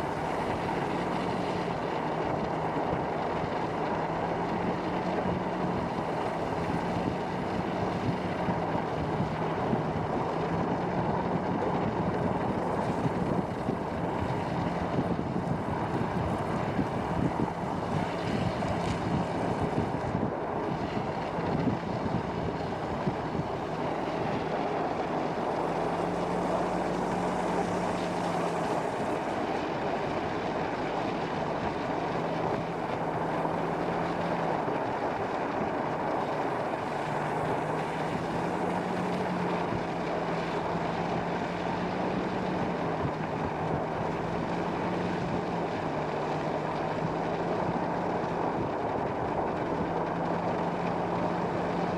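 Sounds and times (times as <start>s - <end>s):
low engine hum: 0.0s - 51.9s
road and tyre noise: 0.0s - 51.9s.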